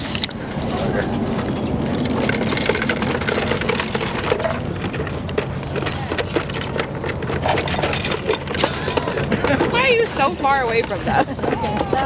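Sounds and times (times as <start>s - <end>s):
low steady rumble: 0.0s - 12.0s
birds pecking at feed container: 0.1s - 12.0s.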